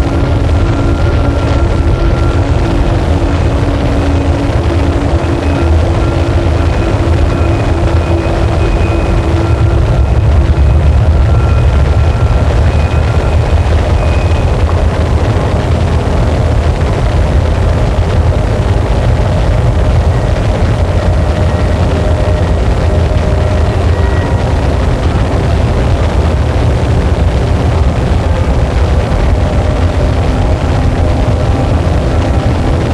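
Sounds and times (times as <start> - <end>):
wall of distorted static: 0.0 - 32.9.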